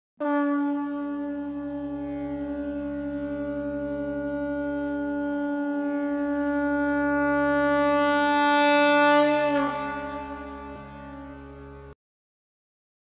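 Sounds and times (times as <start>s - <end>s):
conch shell blown: 0.2s - 12.0s.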